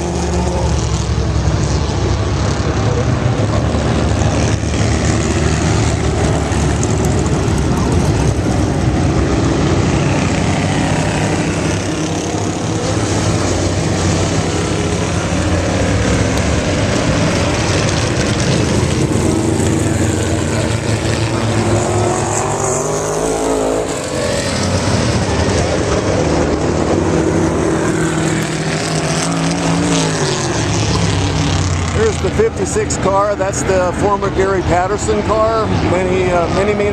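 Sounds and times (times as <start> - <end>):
racing car engines: 0.0 - 36.9.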